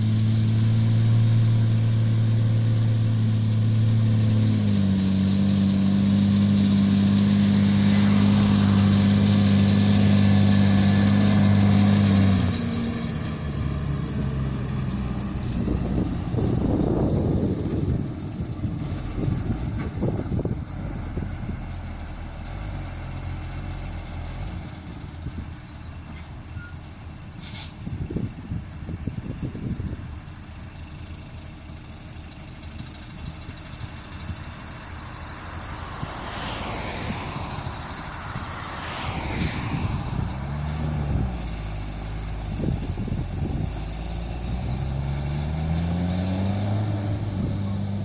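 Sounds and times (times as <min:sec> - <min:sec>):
tractor and trailer rumbling past: 0:00.0 - 0:48.0
tractor engine droning: 0:00.0 - 0:48.0.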